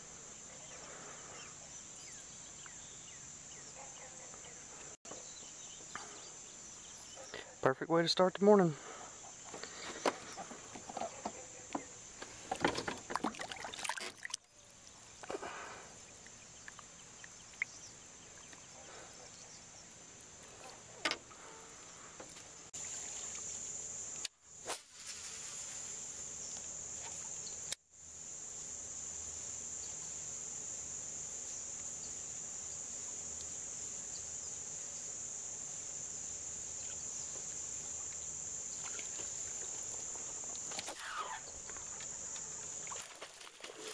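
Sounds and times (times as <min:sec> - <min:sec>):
chorus of insects: 0:00.0 - 0:43.9.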